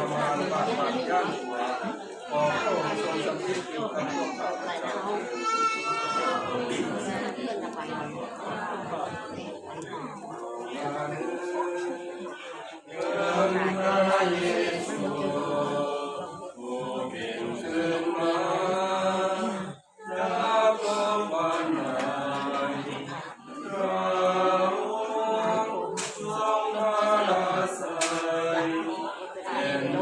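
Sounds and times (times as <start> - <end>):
congregation singing a hymn: 0.0 - 30.0.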